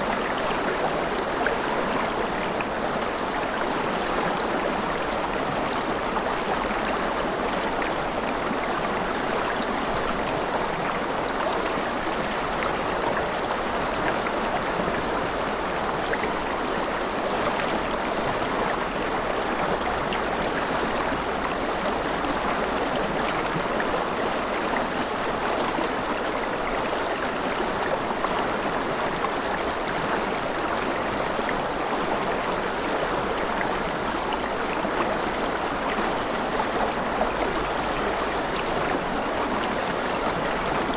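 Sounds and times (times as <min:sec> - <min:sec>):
river water splashing and gurgling: 0:00.0 - 0:40.9.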